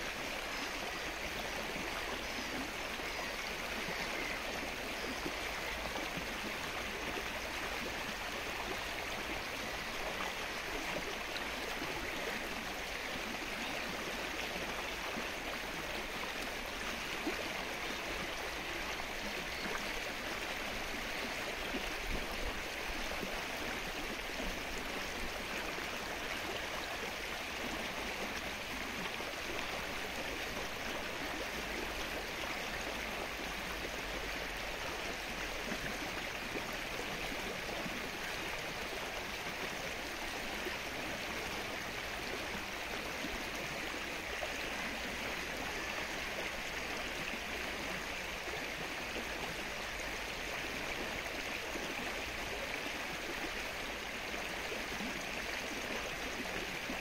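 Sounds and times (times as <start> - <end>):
rain falling on water: 0.0 - 57.0.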